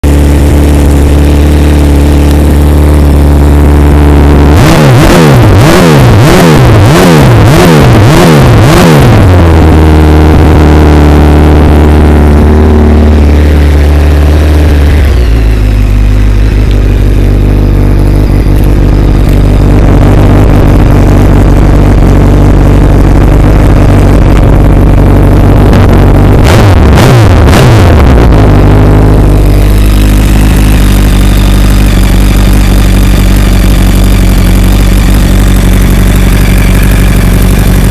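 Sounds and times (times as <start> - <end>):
motorcycle engine idling and revving: 0.0 - 37.9.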